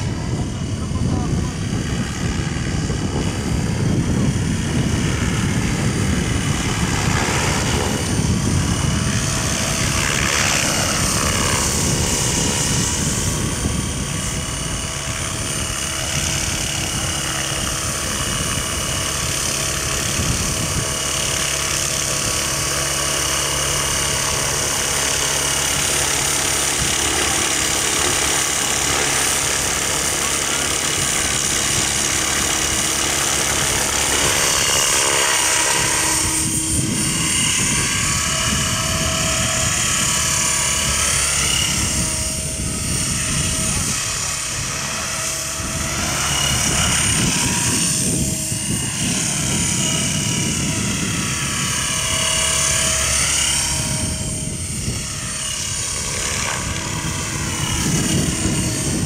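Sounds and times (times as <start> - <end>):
model helicopter motor whine: 0.0 - 59.0.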